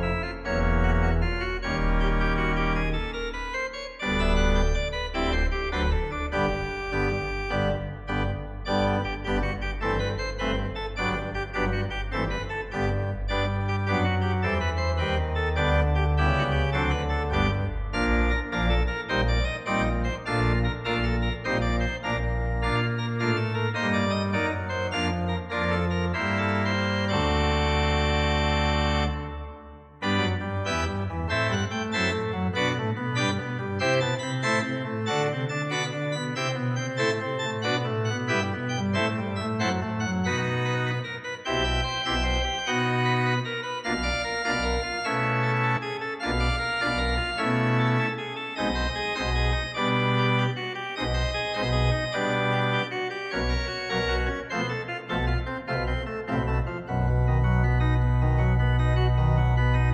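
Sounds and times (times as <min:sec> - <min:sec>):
organ playing: 0:00.0 - 0:59.9.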